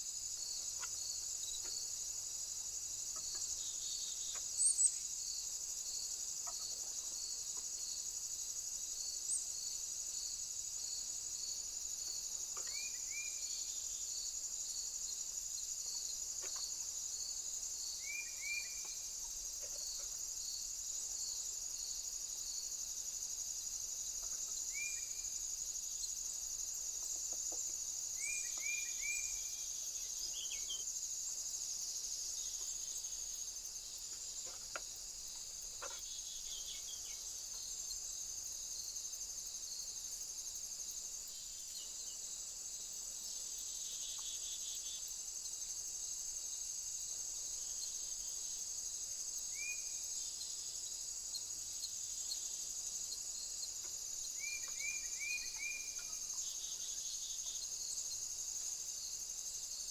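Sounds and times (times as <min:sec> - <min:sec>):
high insect chorus: 0:00.0 - 0:59.9
repeating insect chirp: 0:00.0 - 0:59.9.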